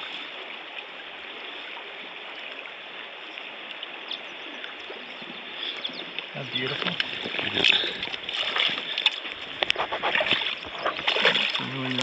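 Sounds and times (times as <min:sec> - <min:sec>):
river flowing over gravel: 0:00.0 - 0:12.0.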